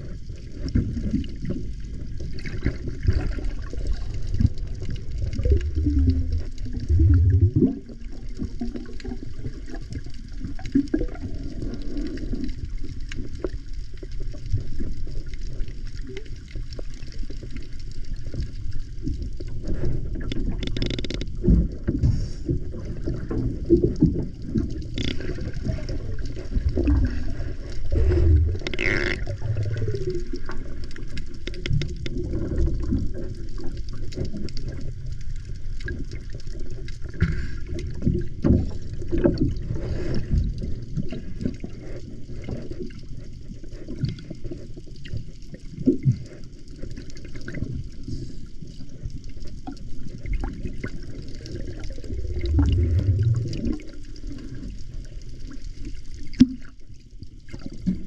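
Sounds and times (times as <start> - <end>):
underwater knocks and gurgles: 0.0 - 58.0
underwater water rumble: 0.0 - 58.0.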